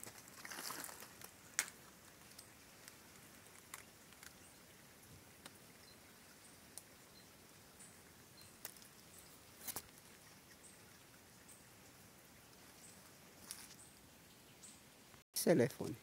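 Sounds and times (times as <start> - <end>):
soft crackles: 0.0 - 14.4.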